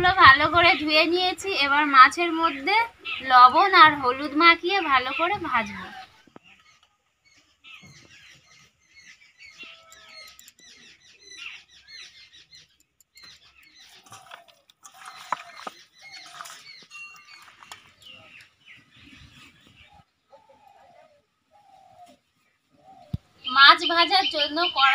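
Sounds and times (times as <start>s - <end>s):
small birds chirping: 0.1s - 24.9s.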